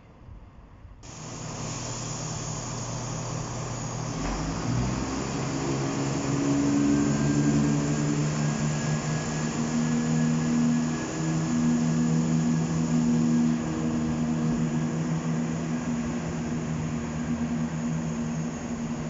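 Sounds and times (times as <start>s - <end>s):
diesel train engines droning: 1.0s - 19.0s.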